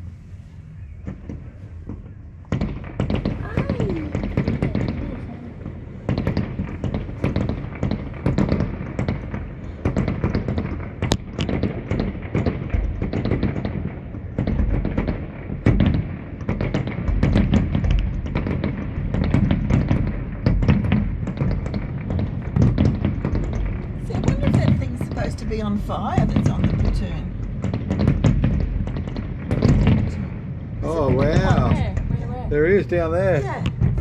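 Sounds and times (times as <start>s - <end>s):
low rumbling booms: 0.0s - 34.0s
fireworks bangs and crackles: 0.8s - 34.0s.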